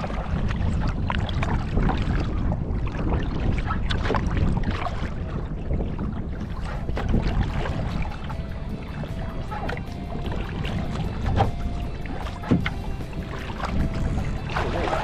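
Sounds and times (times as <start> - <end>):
water lapping against kayak: 0.0 - 15.0
wind buffeting microphone: 0.0 - 15.0.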